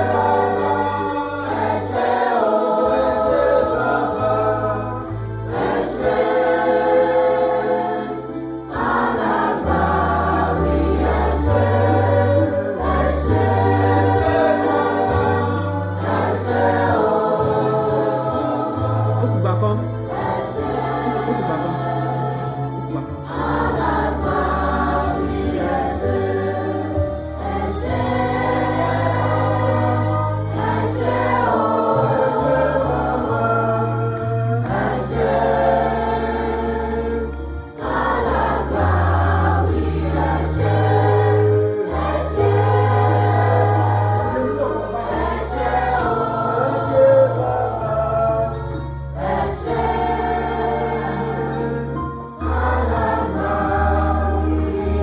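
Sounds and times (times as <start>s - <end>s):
choir singing over bass and beat: 0.0s - 55.0s.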